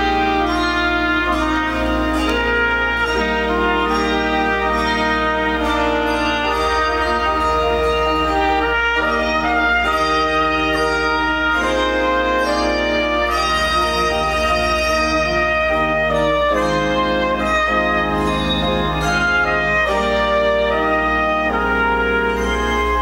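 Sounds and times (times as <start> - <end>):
brass instruments playing chords: 0.0 - 23.0
handbells playing: 0.0 - 23.0.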